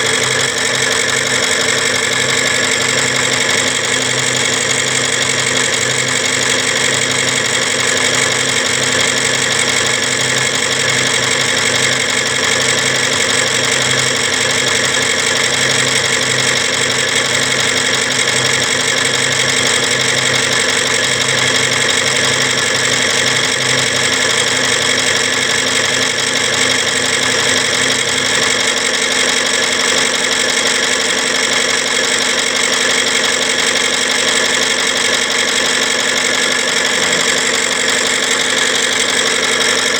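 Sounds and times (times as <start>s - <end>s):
machinery engine-like hum: 0.0s - 39.9s.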